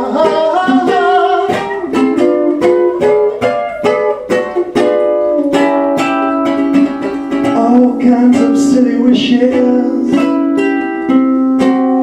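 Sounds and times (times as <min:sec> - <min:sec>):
person singing: 0:00.0 - 0:03.6, 0:05.4 - 0:12.0
strummed string instrument: 0:00.0 - 0:12.0.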